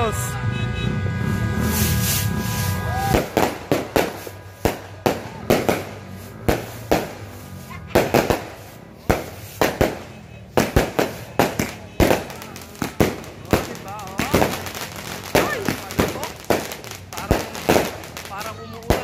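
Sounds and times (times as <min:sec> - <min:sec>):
fireworks bangs: 0:01.4 - 0:19.0.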